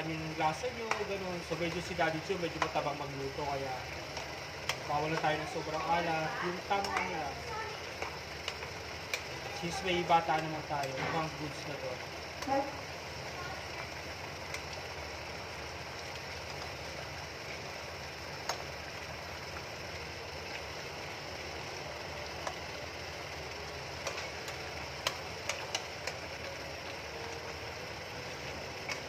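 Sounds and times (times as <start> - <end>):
steady whirring: 0.0 - 29.0.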